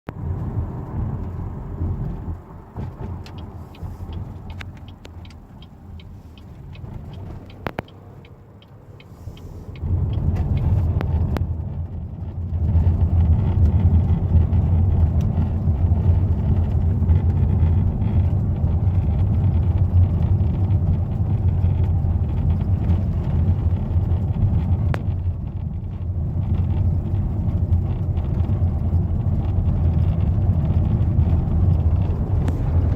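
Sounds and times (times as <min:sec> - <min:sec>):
engine and road rumble: 0:00.0 - 0:32.9.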